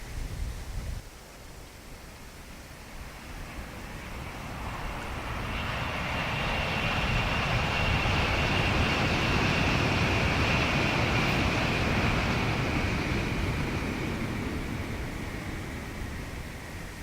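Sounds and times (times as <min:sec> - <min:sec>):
high-speed train rushing: 0:02.4 - 0:17.0.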